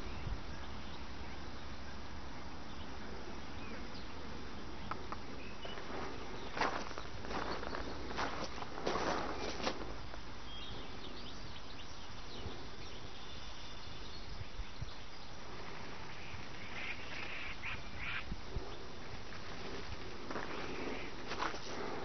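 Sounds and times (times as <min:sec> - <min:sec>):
birds calling: 0:00.0 - 0:22.0
outdoor background hiss: 0:00.0 - 0:22.0.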